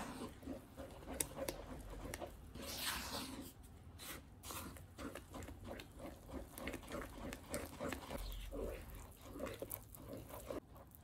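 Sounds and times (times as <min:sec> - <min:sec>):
spatula scraping batter in bowl: 0:00.0 - 0:11.0.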